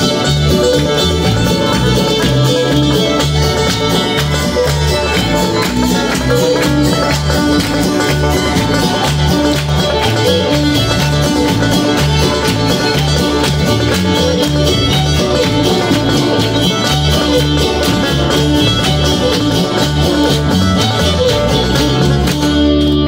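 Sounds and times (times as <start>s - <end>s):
bluegrass music: 0.0s - 23.0s
clogging shoes tapping on stage: 0.0s - 23.0s.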